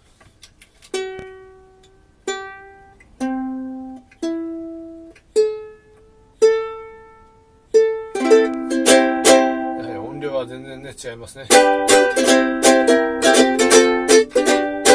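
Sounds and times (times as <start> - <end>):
ukulele strings plucked: 0.8 - 10.6, 11.5 - 14.9.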